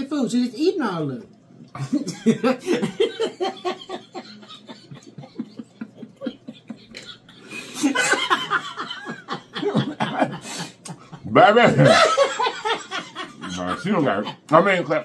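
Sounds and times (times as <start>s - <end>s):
people laughing: 1.7s - 15.0s.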